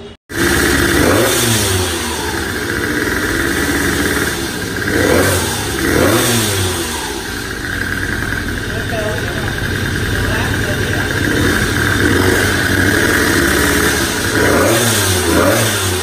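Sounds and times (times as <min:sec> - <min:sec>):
scooter engine revving and idling: 0:00.0 - 0:16.0.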